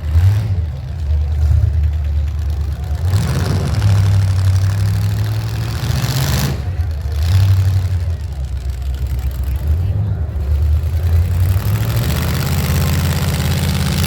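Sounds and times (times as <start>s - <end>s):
vehicle engines droning: 0.0s - 14.0s.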